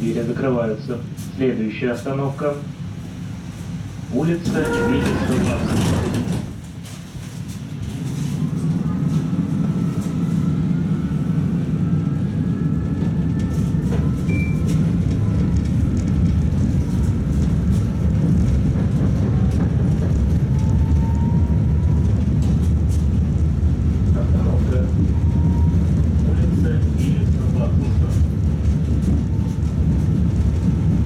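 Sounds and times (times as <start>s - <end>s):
tram rumbling: 0.0s - 31.0s.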